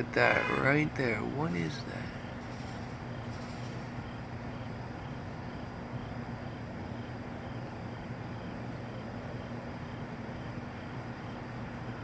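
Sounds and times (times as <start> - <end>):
low droning outdoor hum: 0.0 - 12.0.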